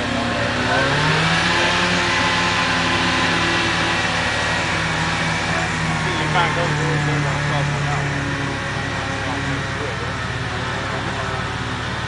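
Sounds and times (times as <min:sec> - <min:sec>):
car engine pulling under load: 0:00.0 - 0:12.0.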